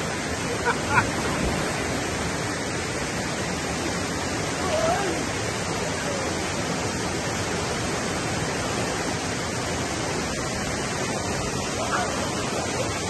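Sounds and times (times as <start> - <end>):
whitewater rushing over rapids: 0.0 - 13.0.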